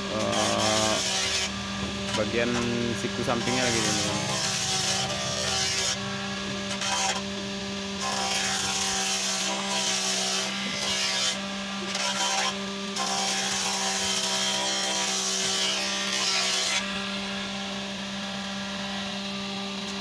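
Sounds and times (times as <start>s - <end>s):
machine motor hum: 0.0s - 20.0s
planer hissing cutting wood: 0.0s - 20.0s.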